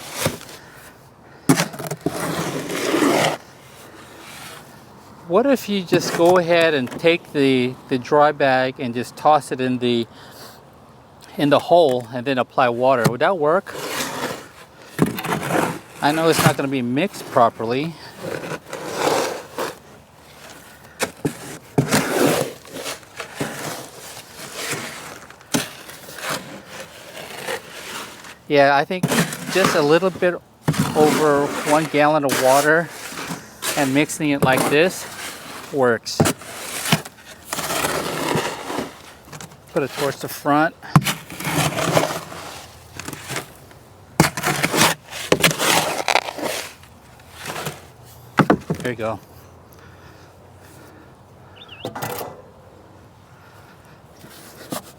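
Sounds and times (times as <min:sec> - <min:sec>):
tool scraping wet concrete: 0:00.0 - 0:00.9, 0:01.5 - 0:04.8, 0:05.4 - 0:07.6, 0:11.4 - 0:49.2.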